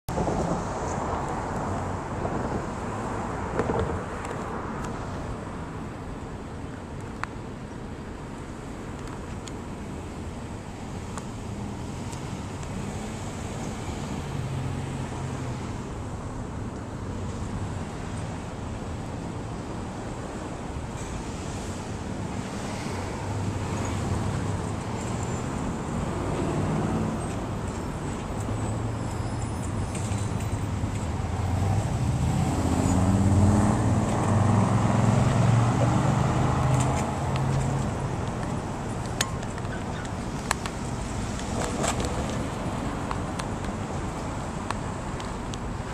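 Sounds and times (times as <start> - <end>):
road traffic rumble: 0.1 - 45.9.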